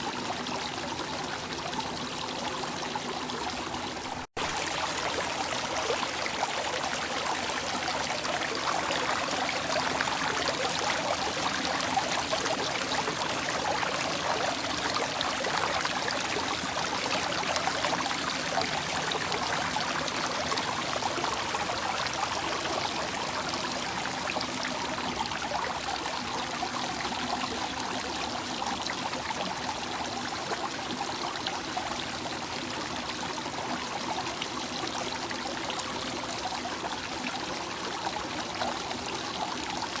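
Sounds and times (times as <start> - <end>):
water flowing and splashing: 0.0 - 40.0.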